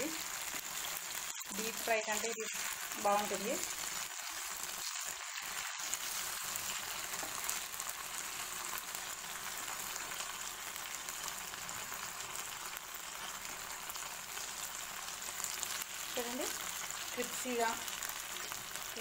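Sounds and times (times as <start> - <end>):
chicken sizzling in pan: 0.0 - 19.0.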